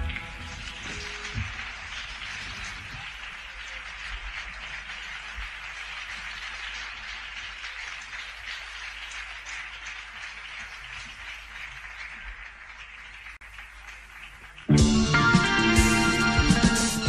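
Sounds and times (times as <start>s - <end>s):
audience applause: 0.0s - 17.0s.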